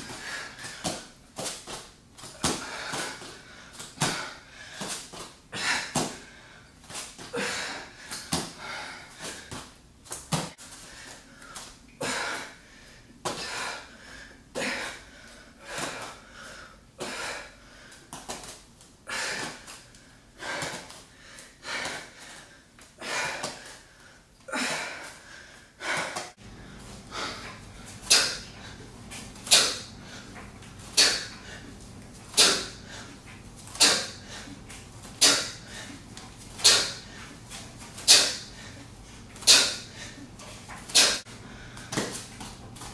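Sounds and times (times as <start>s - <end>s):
woman breathing heavily: 0.0s - 42.9s.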